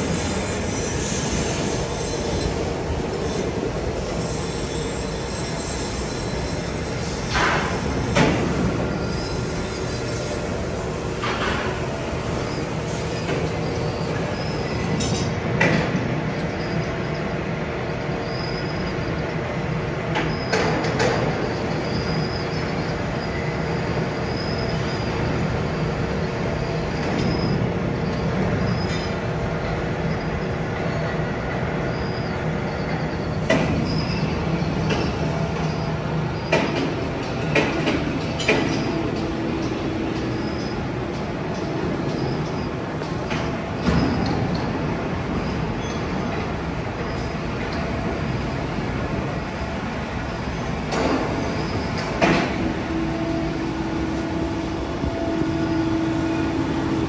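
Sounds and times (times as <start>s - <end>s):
factory machinery humming: 0.0s - 57.0s.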